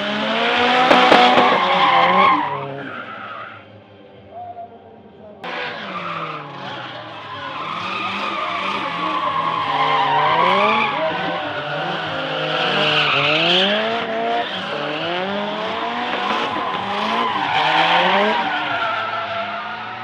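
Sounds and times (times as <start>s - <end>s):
car engine revving: 0.0s - 3.1s, 5.4s - 20.0s.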